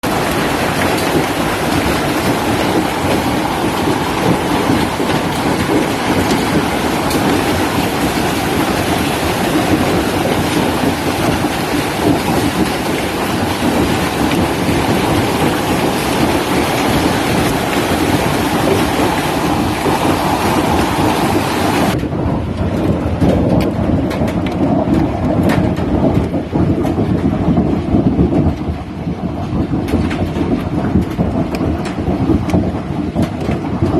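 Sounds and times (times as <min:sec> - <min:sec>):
hail and heavy rain clattering: 0:00.0 - 0:33.9.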